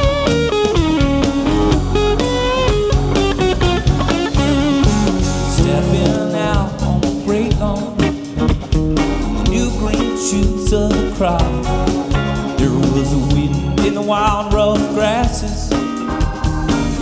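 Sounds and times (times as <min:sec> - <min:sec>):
folk-rock band playing: 0:00.0 - 0:17.0.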